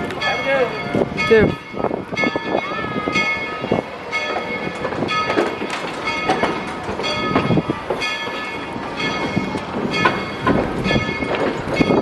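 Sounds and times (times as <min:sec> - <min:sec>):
locomotive bell ringing: 0:00.0 - 0:12.0
train cars knocking and clanking: 0:00.0 - 0:12.0.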